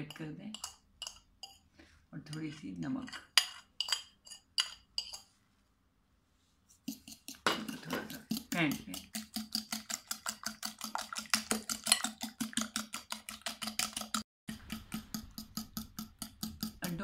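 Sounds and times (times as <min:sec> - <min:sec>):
fork beating eggs in glass bowl: 0:00.0 - 0:01.7, 0:02.3 - 0:05.3, 0:06.7 - 0:17.0.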